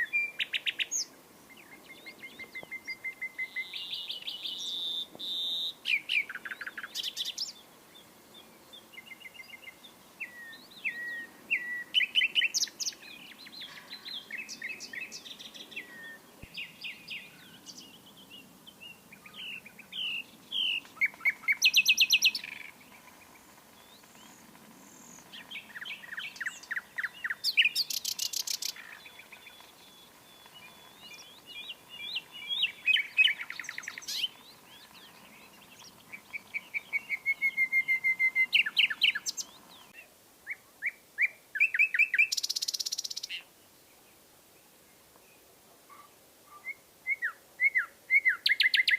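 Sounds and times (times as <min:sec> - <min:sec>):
nightingale singing: 0:00.0 - 0:44.1, 0:44.8 - 0:48.9.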